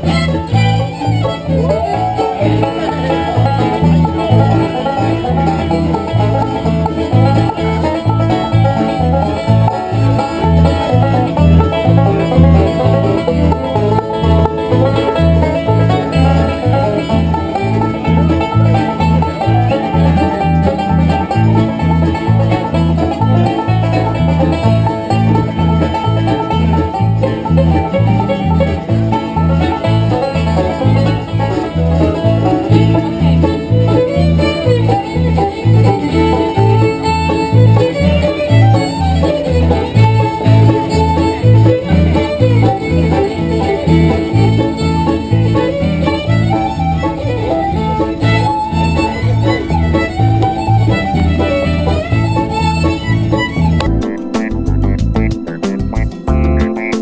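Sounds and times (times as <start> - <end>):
acoustic guitars: 0.0 - 57.0
banjo rolls: 0.0 - 57.0
fiddle: 0.0 - 57.0.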